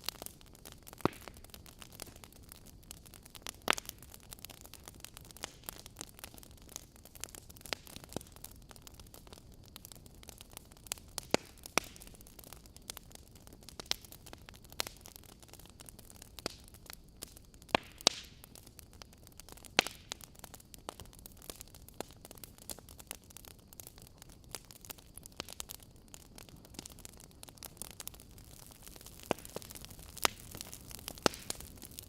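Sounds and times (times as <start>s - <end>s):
faint steady hiss: 0.0s - 32.0s
wood fire crackling: 0.0s - 32.0s.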